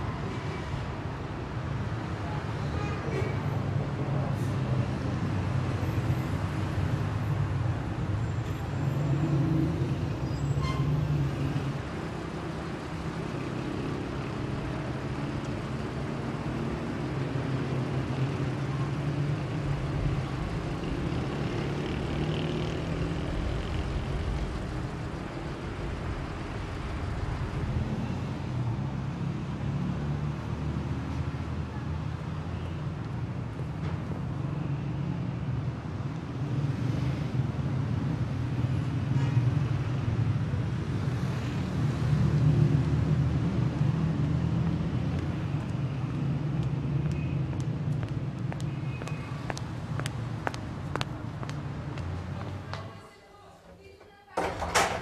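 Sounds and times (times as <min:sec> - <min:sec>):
street traffic hum: 0:00.0 - 0:55.0.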